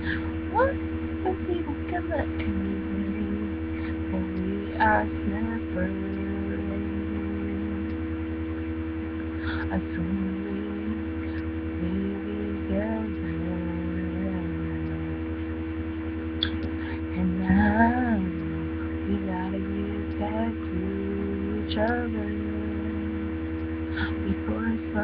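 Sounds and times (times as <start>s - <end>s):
woman singing softly: 0.0s - 8.0s, 9.4s - 15.2s, 16.4s - 23.4s, 24.0s - 25.0s
electrical mains hum: 0.0s - 25.0s.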